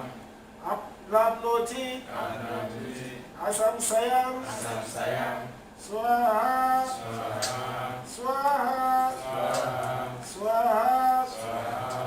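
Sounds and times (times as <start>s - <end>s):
person chanting in sing-song rhythm: 1.3s - 12.0s.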